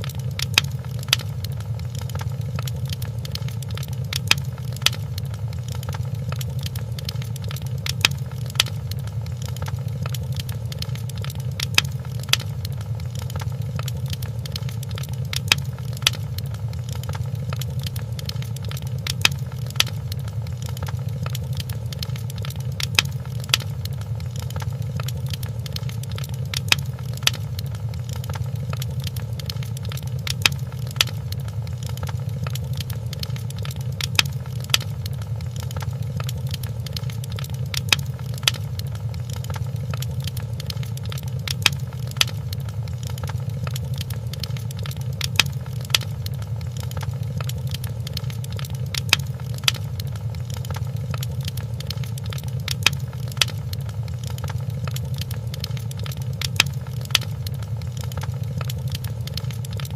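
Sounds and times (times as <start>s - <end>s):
fire popping: 0.0s - 59.9s
low rumble of fire: 0.0s - 59.9s.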